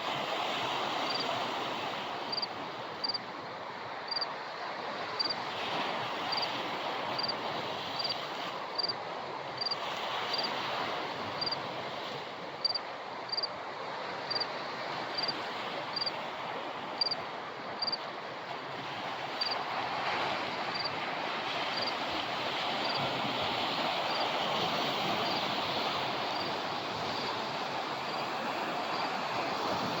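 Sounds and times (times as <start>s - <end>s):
sea surf washing: 0.0s - 30.0s.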